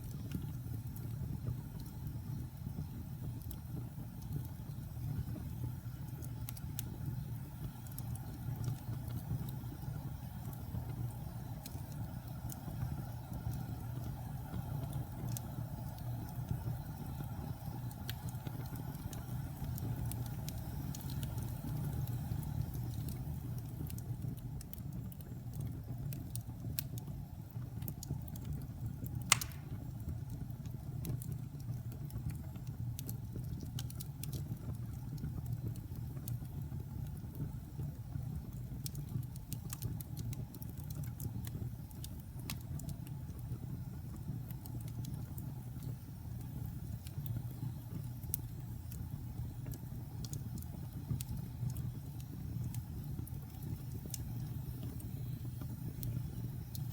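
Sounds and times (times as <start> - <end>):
fire crackling and popping: 0.0 - 56.9
wood fire rumbling: 0.0 - 56.9.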